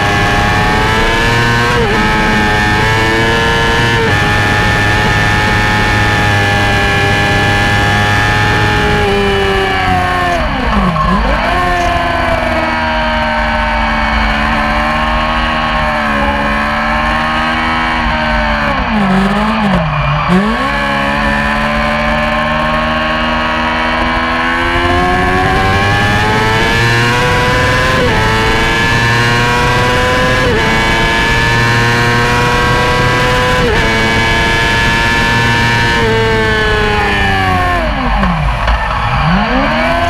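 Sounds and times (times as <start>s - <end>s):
racing motorcycle engine revving: 0.0s - 40.0s.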